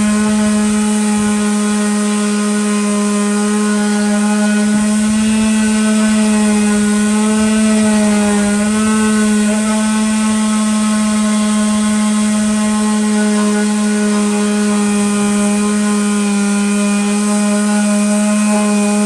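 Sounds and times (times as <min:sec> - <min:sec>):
electric power sander whine: 0:00.0 - 0:19.0.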